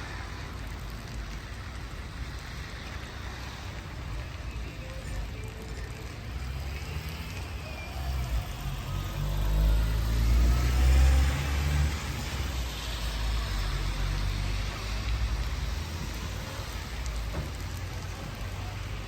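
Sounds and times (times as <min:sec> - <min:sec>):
steady rain: 0:00.0 - 0:19.0
tyre hiss on wet street: 0:00.0 - 0:19.0
vehicle engine rumble: 0:00.0 - 0:19.0.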